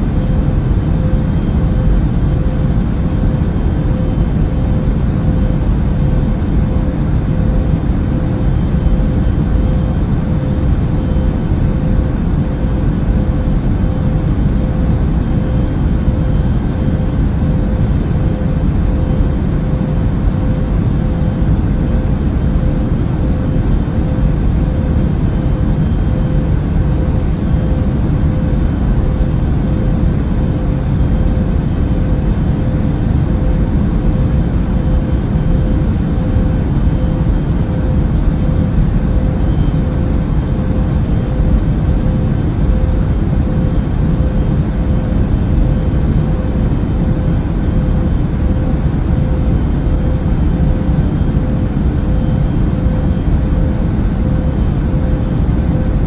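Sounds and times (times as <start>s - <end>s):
aircraft cabin airflow rush: 0.0s - 56.0s
faint steady hum: 0.0s - 56.0s.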